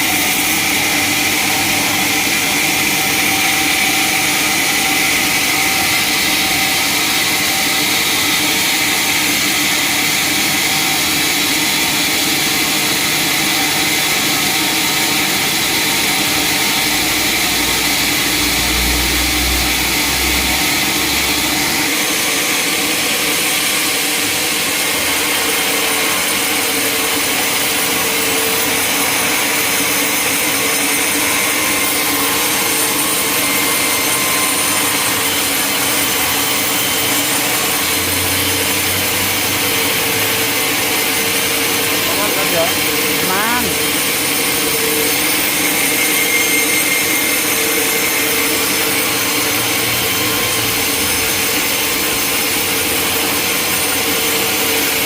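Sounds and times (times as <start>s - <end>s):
sawmill saw whining: 0.0s - 55.0s.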